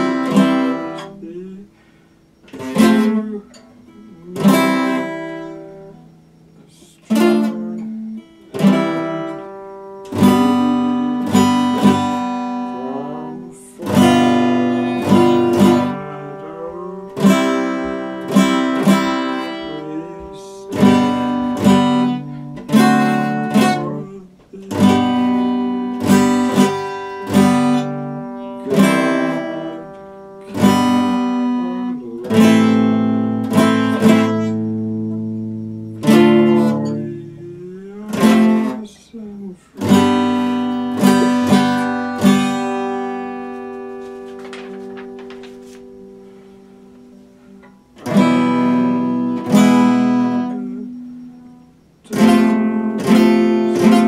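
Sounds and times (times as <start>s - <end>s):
acoustic guitar chords: 0.0s - 54.0s.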